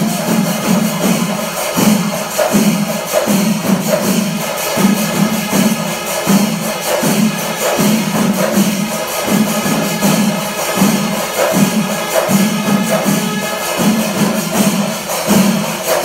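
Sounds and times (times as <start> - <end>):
drums beaten rhythmically: 0.0 - 16.0
hand cymbals clashing: 0.0 - 16.0.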